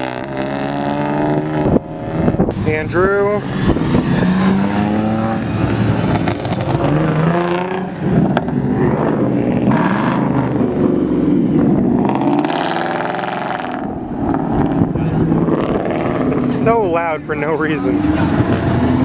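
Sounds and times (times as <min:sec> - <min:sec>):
car engine revving and accelerating: 0:00.0 - 0:19.0.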